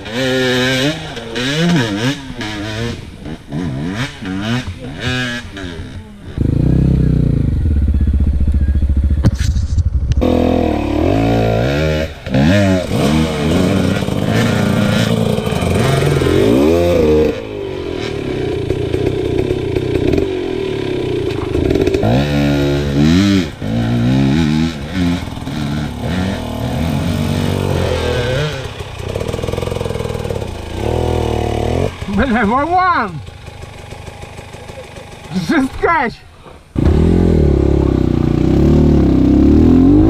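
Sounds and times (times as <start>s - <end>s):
motorcycle engine revving: 0.0s - 35.7s, 36.8s - 40.0s.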